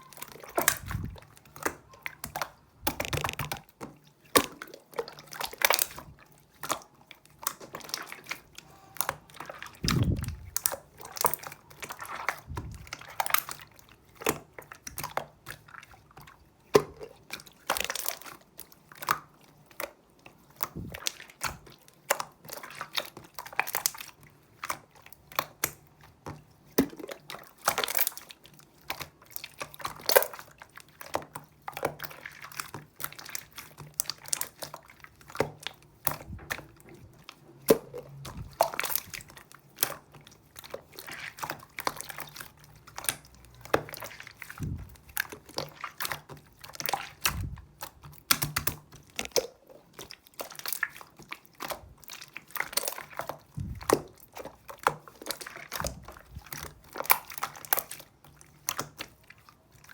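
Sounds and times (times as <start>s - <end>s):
slime squished by hand: 0.0s - 59.9s.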